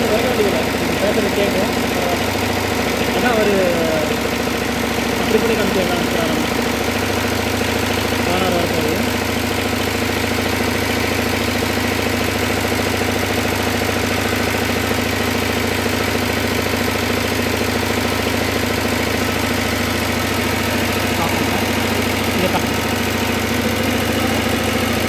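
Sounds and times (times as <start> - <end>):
diesel engine knocking: 0.0 - 25.0.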